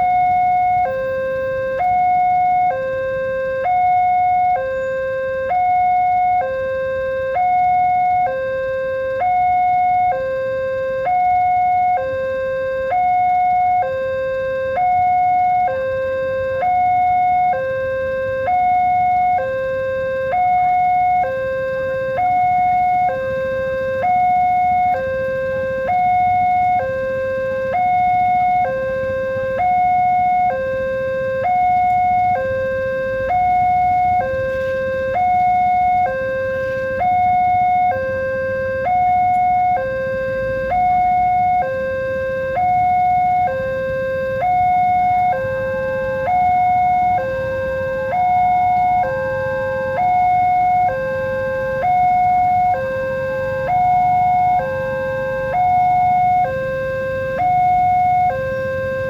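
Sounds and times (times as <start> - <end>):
two-tone level crossing alarm: 0.0 - 59.0.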